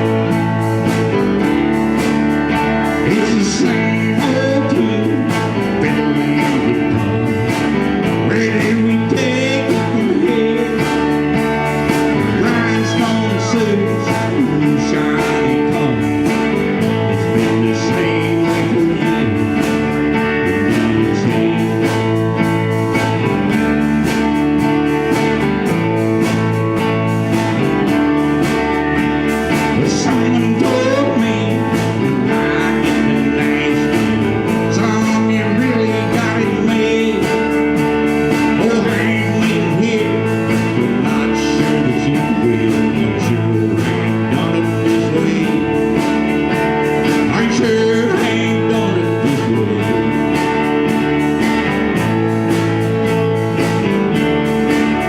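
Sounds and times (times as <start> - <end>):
band playing guitar-led song: 0.0 - 55.0
bending guitar notes: 0.0 - 55.0.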